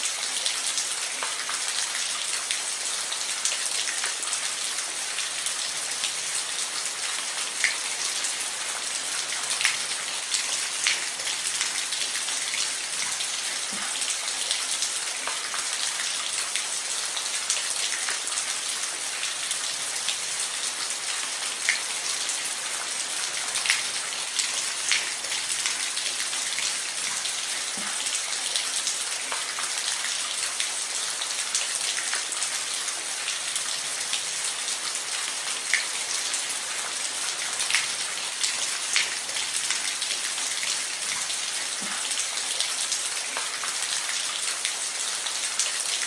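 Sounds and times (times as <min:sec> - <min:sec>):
rain falling on a roof: 0:00.0 - 0:46.0.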